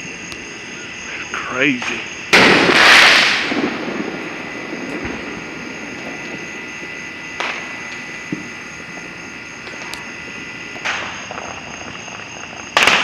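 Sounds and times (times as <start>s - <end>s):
firework bang and crackle: 1.1s - 13.0s.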